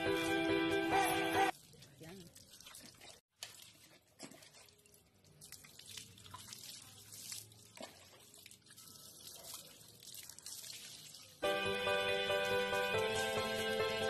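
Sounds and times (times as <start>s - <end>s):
water pouring over dog: 1.5s - 14.0s
water splashing on concrete: 1.5s - 14.0s.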